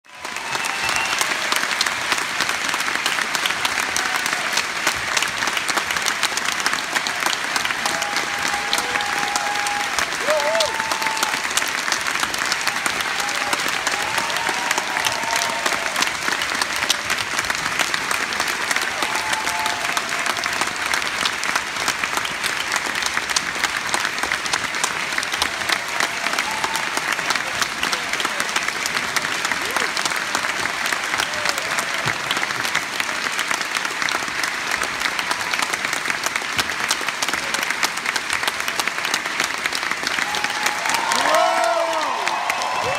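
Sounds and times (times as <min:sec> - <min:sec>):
audience applauding: 0:00.0 - 0:42.9.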